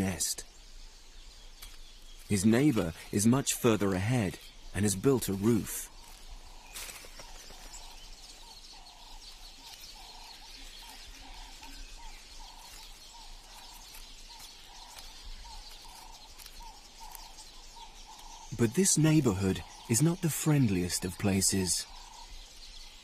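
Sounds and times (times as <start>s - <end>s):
bird repeating low note: 0.0s - 22.5s.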